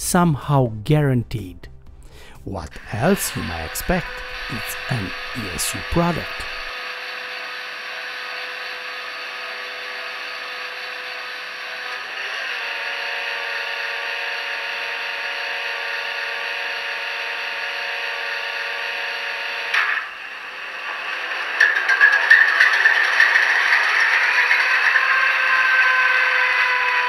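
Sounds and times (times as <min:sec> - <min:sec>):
model diesel engine sound: 0:00.0 - 0:27.0.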